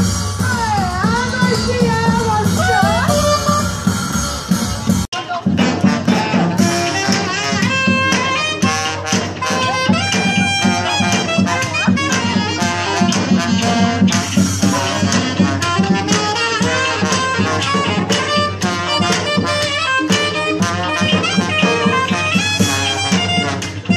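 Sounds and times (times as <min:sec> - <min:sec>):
bass drum beat: 0:00.0 - 0:23.9
saxophone and trumpet melody: 0:00.0 - 0:23.9.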